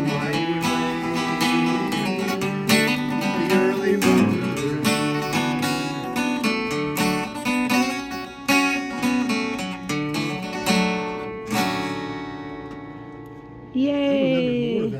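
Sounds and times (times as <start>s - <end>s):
acoustic guitar playing: 0.0s - 14.9s.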